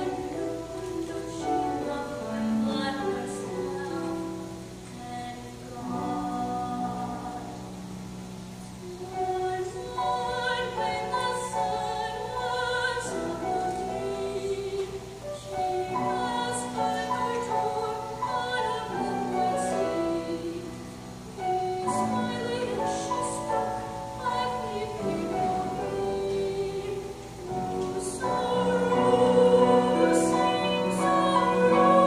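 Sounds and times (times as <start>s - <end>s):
woman singing with vibrato: 0.0s - 8.1s, 8.7s - 32.0s
grand piano: 0.0s - 32.0s.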